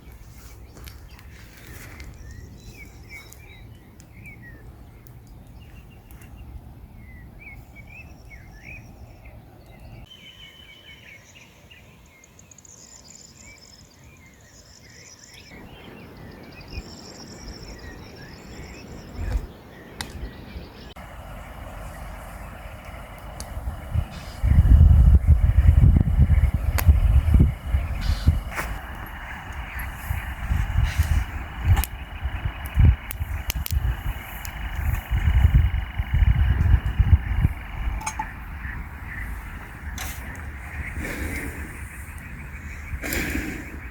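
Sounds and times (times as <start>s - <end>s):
low wind rumble: 0.0s - 14.2s, 15.3s - 43.9s
small birds chirping: 0.0s - 43.9s.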